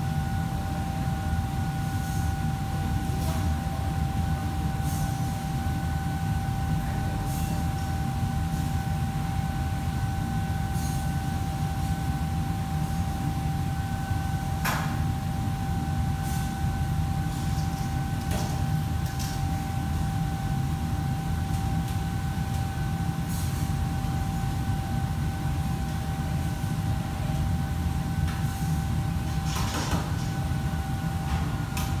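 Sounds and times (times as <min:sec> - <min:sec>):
kitchen machinery hum: 0:00.0 - 0:32.0.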